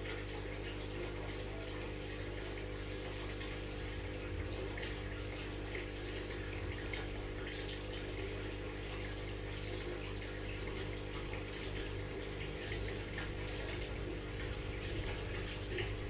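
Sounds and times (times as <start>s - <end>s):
pump humming: 0.0s - 16.0s
water trickling and splashing: 0.0s - 16.0s.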